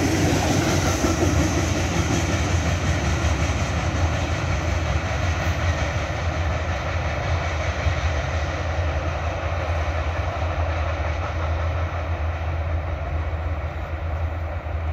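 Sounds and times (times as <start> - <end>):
freight train rolling on rails: 0.0 - 14.9.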